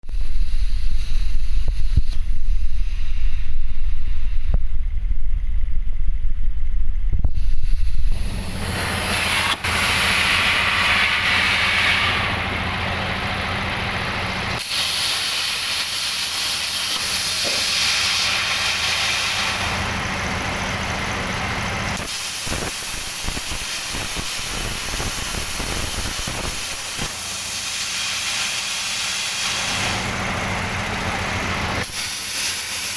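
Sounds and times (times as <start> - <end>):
plasma torch hissing: 0.0 - 4.7, 7.3 - 13.2, 14.5 - 20.4, 21.9 - 32.9
low machine hum: 0.0 - 15.6, 16.4 - 32.9.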